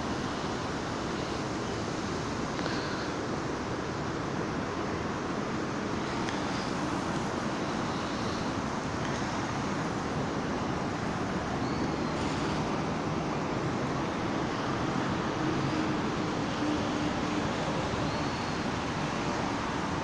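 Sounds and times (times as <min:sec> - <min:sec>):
distant traffic hum: 0:00.0 - 0:20.0.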